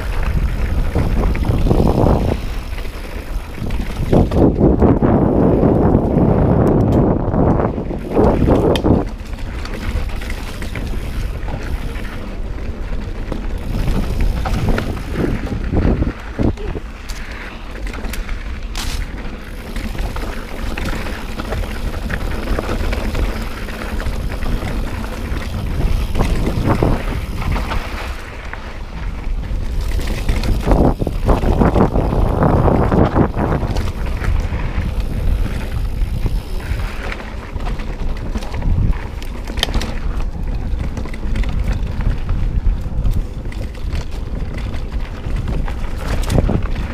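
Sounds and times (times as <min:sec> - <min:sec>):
bike knocks and rattles: 0:00.0 - 0:46.9
tyres rolling on dirt: 0:00.0 - 0:46.9
wind buffeting microphone: 0:00.0 - 0:46.9.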